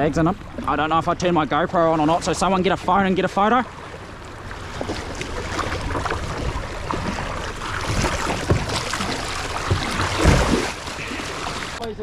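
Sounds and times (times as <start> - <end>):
low rumble: 0.0 - 11.8
water sloshing against boat: 0.0 - 12.0.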